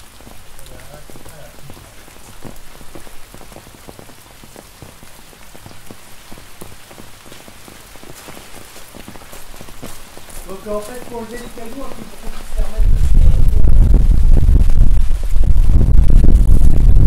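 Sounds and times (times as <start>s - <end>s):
rain on a glass roof: 0.0s - 17.0s.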